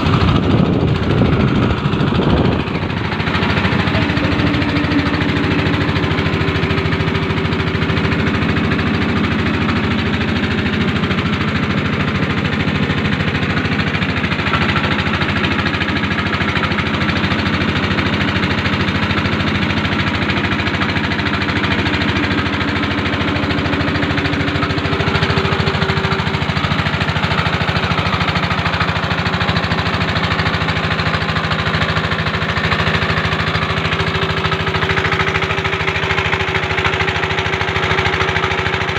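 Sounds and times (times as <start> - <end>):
boat petrol engine running: 0.0 - 38.9.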